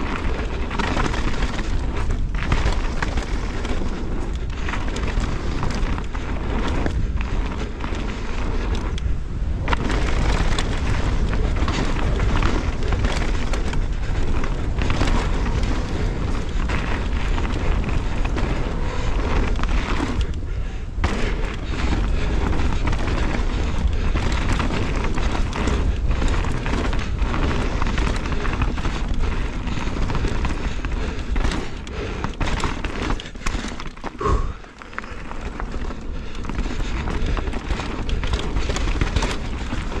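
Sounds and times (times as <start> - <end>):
bike rattling over bumps: 0.0 - 40.0
tyres crunching over gravel: 0.0 - 40.0
wind buffeting microphone: 0.0 - 40.0.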